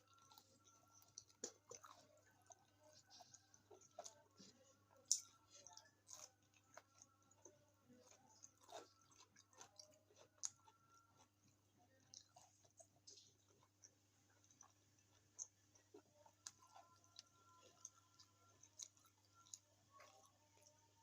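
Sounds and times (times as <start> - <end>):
faint steady hum: 0.0 - 21.0
person chewing food: 0.0 - 21.0.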